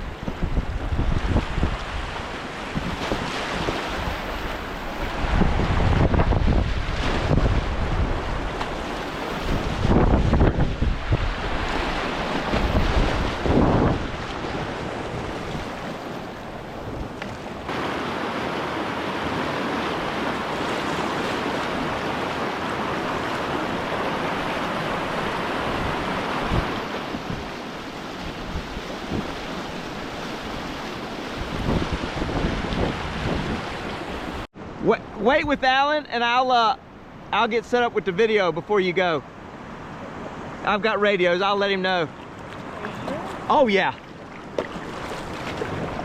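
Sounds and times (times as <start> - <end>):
rushing whitewater river: 0.0 - 34.5, 39.9 - 46.0
wind buffeting microphone: 0.0 - 34.5, 42.2 - 46.0.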